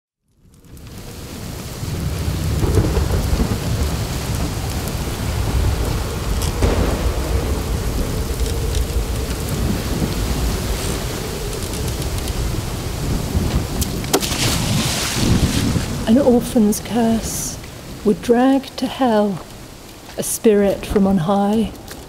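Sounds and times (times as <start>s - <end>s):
rain-like hiss: 0.2s - 22.0s
deep water rumble: 0.4s - 18.7s.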